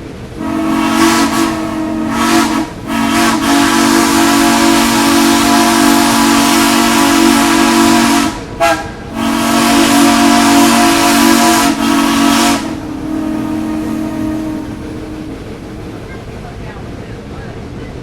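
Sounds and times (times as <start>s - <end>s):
steam locomotive chime whistle: 0.4s - 16.2s.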